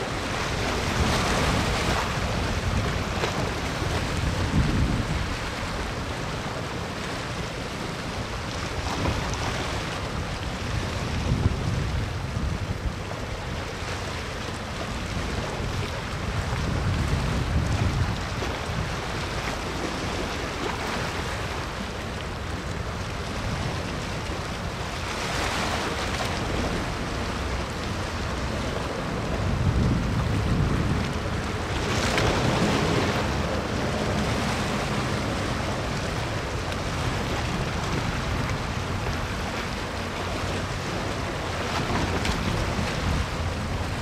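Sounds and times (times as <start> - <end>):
wind on microphone: 0.0 - 7.0, 7.6 - 44.0.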